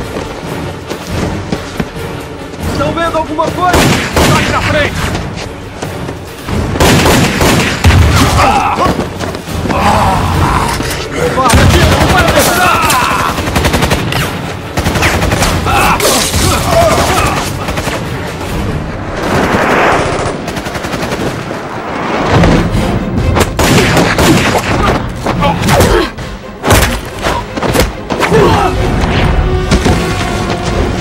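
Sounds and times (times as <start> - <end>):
background film score: 0.0 - 31.0.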